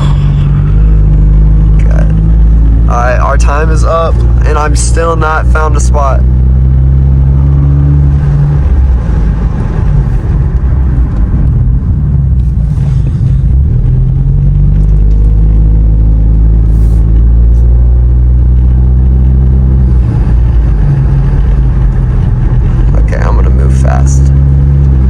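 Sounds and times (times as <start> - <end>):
car engine drone from inside: 0.0 - 25.0.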